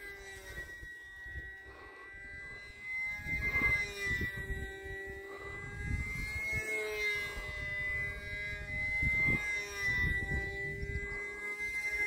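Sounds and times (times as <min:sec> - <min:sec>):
model plane motor whining: 0:00.0 - 0:12.0
wind buffeting microphone: 0:00.4 - 0:12.0.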